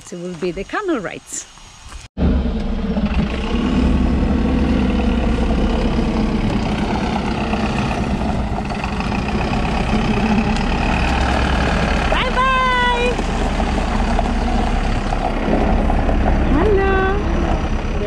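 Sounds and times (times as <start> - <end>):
diesel truck engine idling: 2.4 - 18.0.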